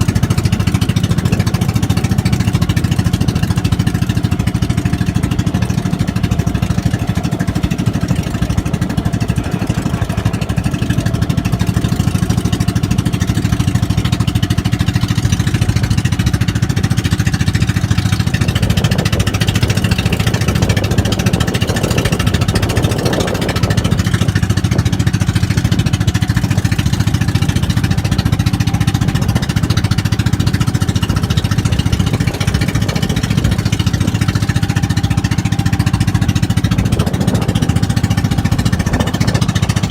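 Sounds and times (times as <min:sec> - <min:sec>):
boat engine chugging: 0:00.0 - 0:39.9.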